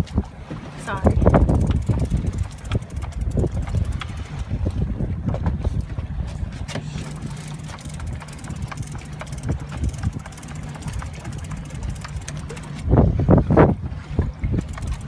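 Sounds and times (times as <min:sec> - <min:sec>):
boat engine running: 0:00.0 - 0:15.0
wind on microphone: 0:00.0 - 0:15.0.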